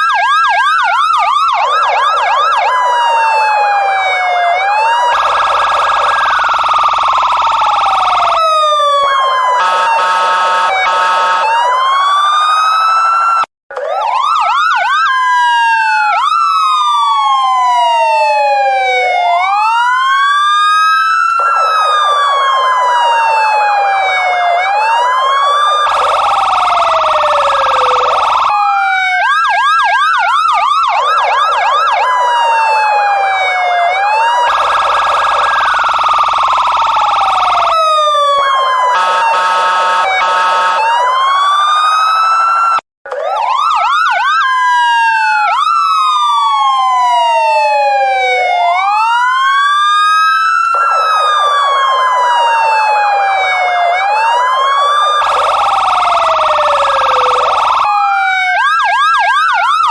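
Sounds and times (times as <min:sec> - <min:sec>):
electronic police siren: 0:00.0 - 0:59.9.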